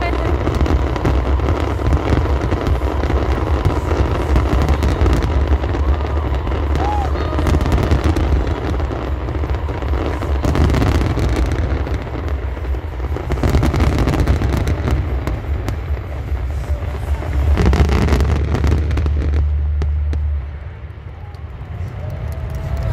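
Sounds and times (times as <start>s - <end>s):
fireworks bangs and crackling: 0.0s - 22.9s
low rumble: 0.0s - 22.9s.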